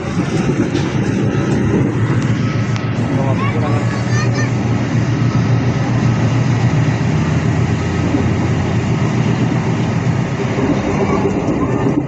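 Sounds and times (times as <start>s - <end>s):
train running rumble inside carriage: 0.0s - 12.0s.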